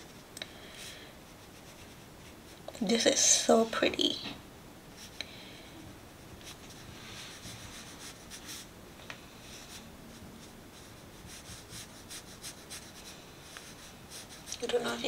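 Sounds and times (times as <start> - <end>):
paintbrush brushing on paper: 0.0 - 3.8, 4.9 - 5.2, 6.1 - 8.7, 9.4 - 15.0.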